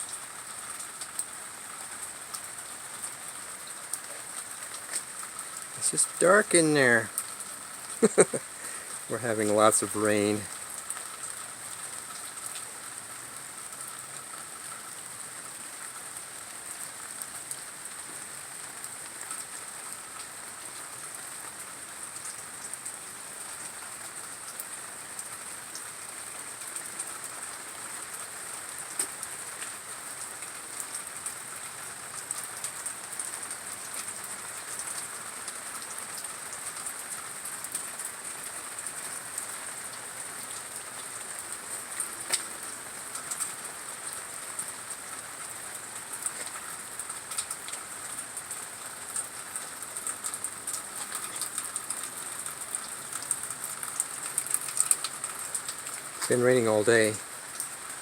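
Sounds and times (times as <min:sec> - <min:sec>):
steady rain with drop taps: 0:00.0 - 0:58.0.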